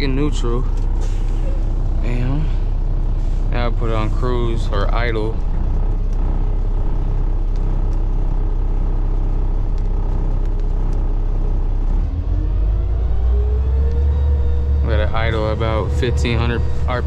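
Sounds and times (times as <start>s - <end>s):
diesel truck engine idling and revving: 0.0s - 17.0s.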